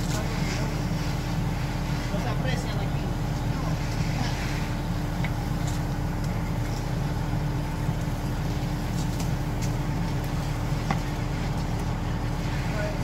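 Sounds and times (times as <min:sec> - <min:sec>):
diesel truck engine humming: 0:00.0 - 0:13.0.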